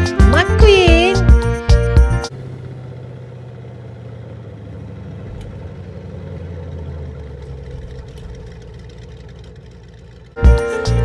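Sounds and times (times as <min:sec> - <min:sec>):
race car engine rumbling: 0:01.8 - 0:11.0.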